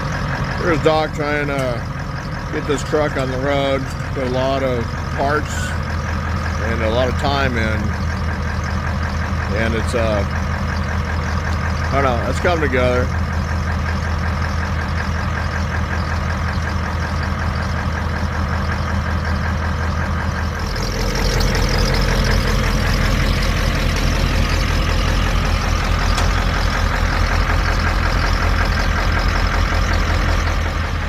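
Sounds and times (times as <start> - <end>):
pickup truck engine running: 0.0 - 31.0.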